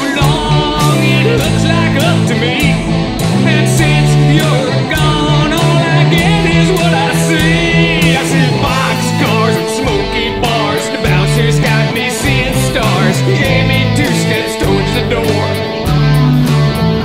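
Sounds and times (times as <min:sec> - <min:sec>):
song with guitar and vocals: 0:00.0 - 0:17.0
steady bass line: 0:00.0 - 0:17.0.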